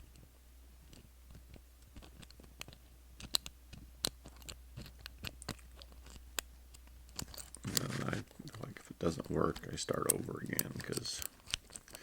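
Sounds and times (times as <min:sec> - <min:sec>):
lock pick clicking and scraping: 0:00.8 - 0:12.0.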